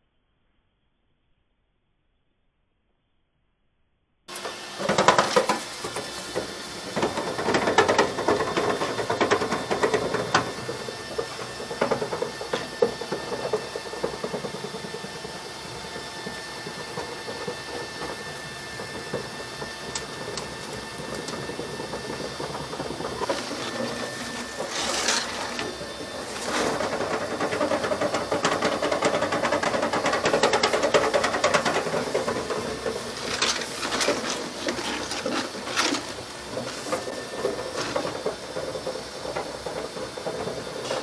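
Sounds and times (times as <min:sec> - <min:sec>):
machine running: 0:04.3 - 0:41.0
rattling and knocking: 0:04.8 - 0:41.0.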